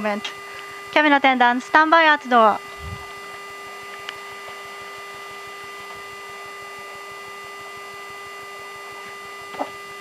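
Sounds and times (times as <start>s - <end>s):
constant hum: 0.0s - 10.0s
high whines: 0.0s - 10.0s.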